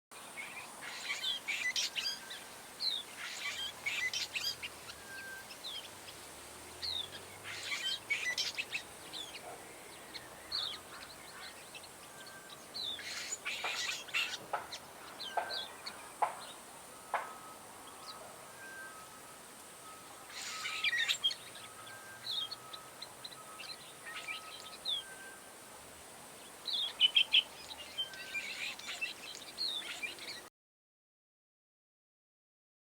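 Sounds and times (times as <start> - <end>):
bird chirping: 0.4 - 30.5.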